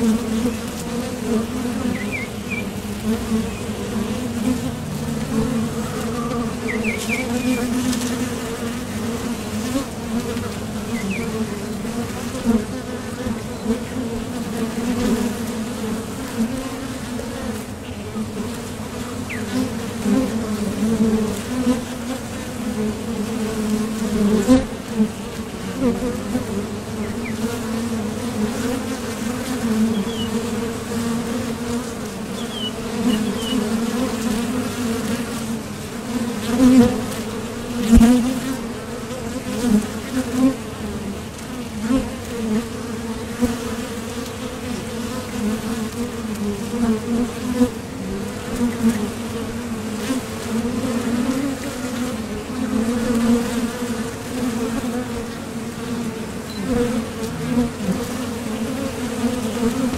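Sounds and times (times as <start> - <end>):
honey bees buzzing: 0.0 - 59.9.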